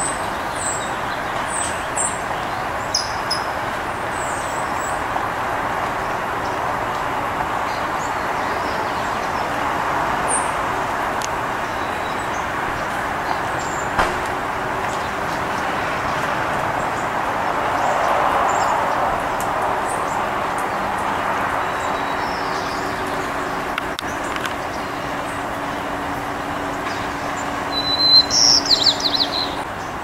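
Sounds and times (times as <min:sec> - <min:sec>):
distant road traffic hum: 0:00.0 - 0:30.0.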